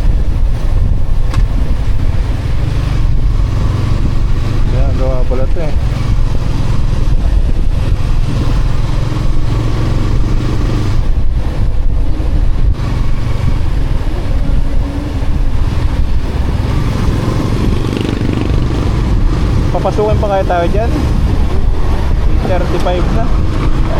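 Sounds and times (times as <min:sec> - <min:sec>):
motorcycle engine running: 0:00.0 - 0:23.9
road noise: 0:00.0 - 0:23.9.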